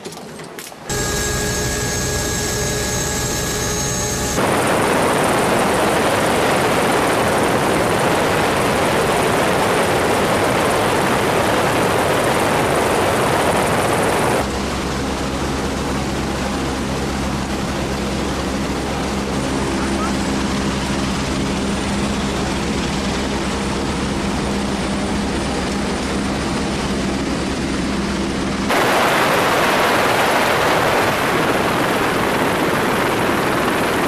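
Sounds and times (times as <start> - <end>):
helicopter engine hum: 0.9 - 29.8.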